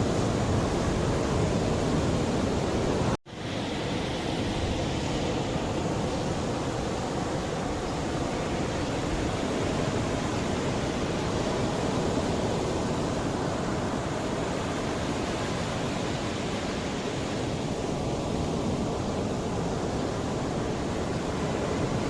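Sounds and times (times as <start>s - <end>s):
sea waves washing in: 0.0s - 22.0s.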